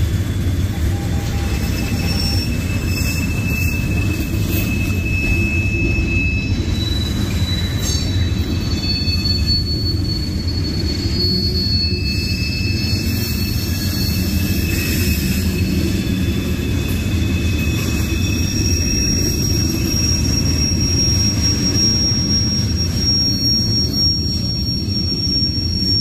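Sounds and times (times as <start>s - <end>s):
high wheel squeals: 0.0s - 26.0s
rumble of wheels on rail: 0.0s - 26.0s.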